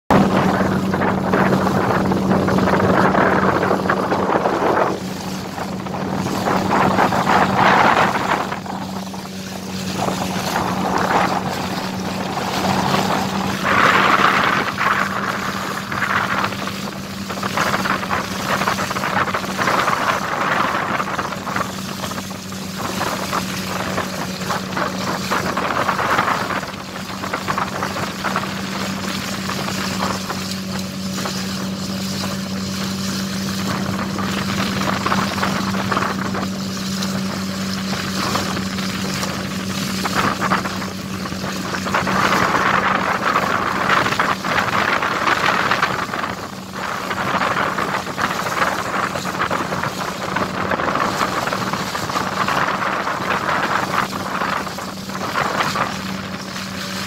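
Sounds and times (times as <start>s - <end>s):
steady motor hum: 0.0s - 57.0s
rushing noise: 0.1s - 57.0s.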